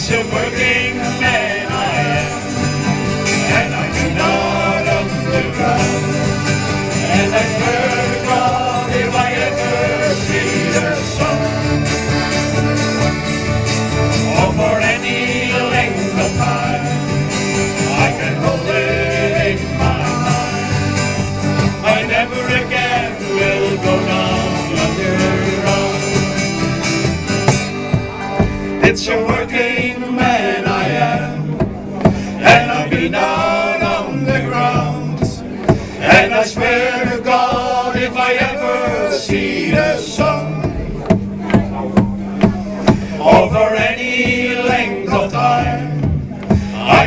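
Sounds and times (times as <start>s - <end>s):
folk band playing slow ballad: 0.0s - 47.0s.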